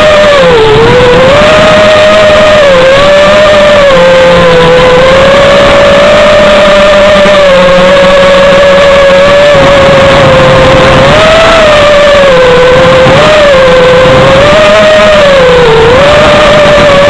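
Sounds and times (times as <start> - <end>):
electric motors whining: 0.0 - 17.0
wind and propeller wash: 0.0 - 17.0.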